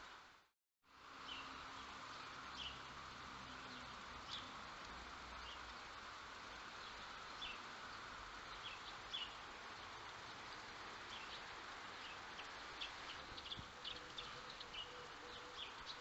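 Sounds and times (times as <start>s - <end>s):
faint outdoor hiss: 0.0s - 16.0s
small birds chirping: 1.1s - 16.0s.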